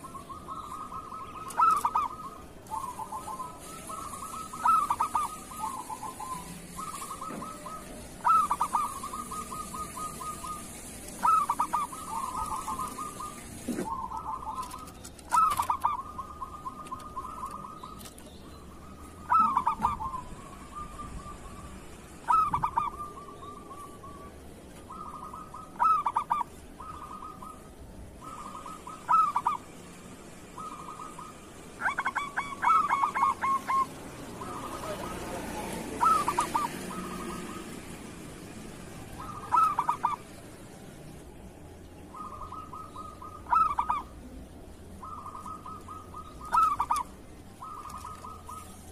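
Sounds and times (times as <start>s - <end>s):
dove cooing: 0.0s - 29.8s, 30.5s - 41.0s, 42.0s - 48.9s.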